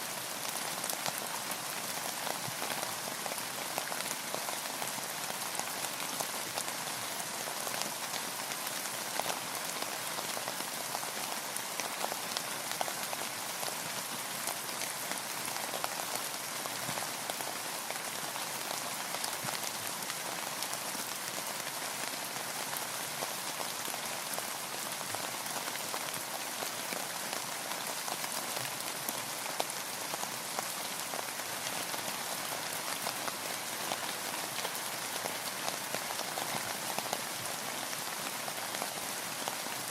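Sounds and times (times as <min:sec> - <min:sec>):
rain falling on a boat: 0:00.0 - 0:39.9.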